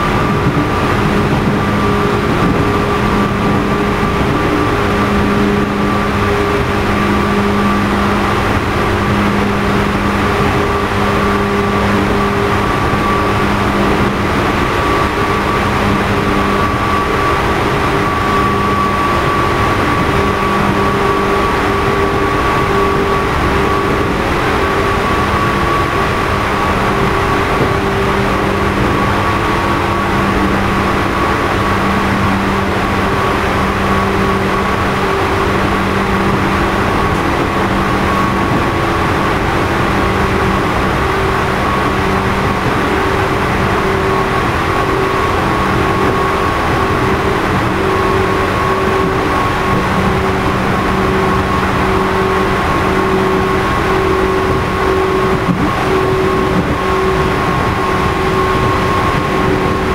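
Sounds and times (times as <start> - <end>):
train wheels rumbling on rail: 0.0 - 59.9
whining traction motors: 0.0 - 59.9.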